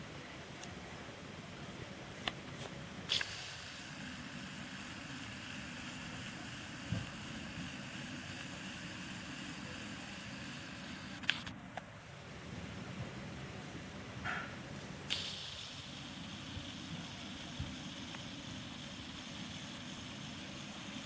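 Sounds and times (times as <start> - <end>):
low rumble and hiss: 0.0 - 21.0.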